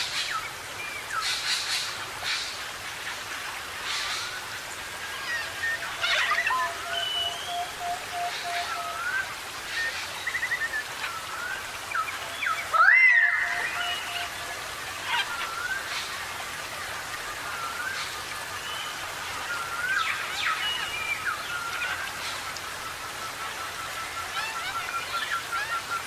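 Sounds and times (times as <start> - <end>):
faint steady hiss: 0.0 - 26.0
wild birds calling: 0.0 - 26.0.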